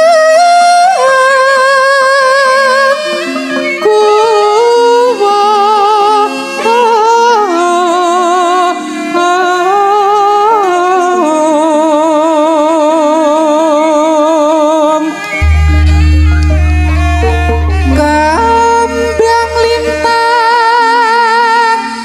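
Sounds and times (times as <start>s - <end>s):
traditional instrumental accompaniment: 0.0s - 22.0s.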